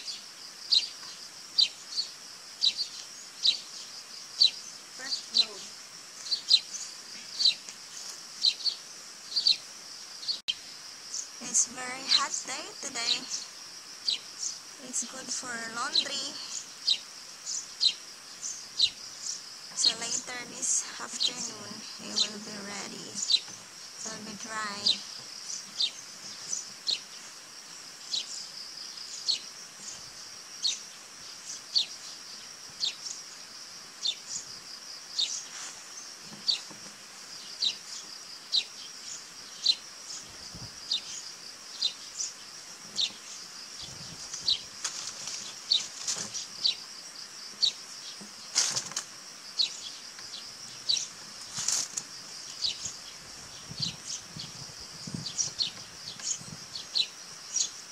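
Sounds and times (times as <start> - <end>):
insects trilling: 0.0 - 57.9.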